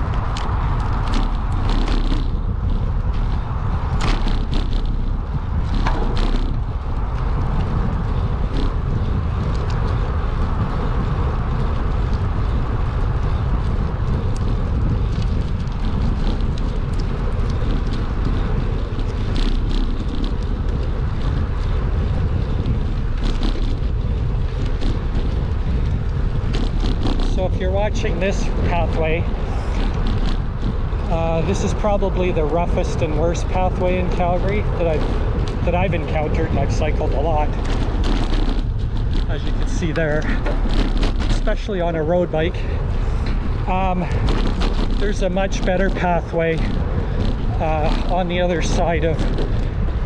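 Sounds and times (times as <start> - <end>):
bicycle rattling and clicking: 0.0 - 50.0
wind buffeting microphone: 0.0 - 50.0.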